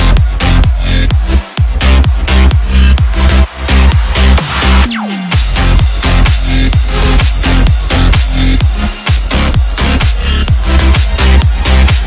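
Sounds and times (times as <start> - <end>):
deep kick drums: 0.0 - 12.0
electronic dance music: 0.0 - 12.0.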